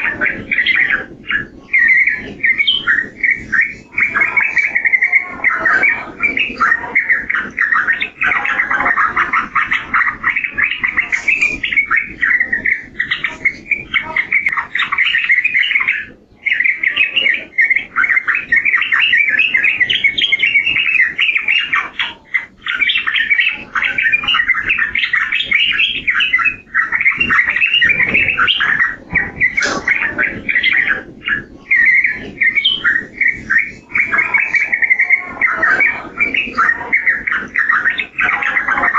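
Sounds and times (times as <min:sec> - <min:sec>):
bird singing quick chattering notes: 0:00.0 - 0:38.9.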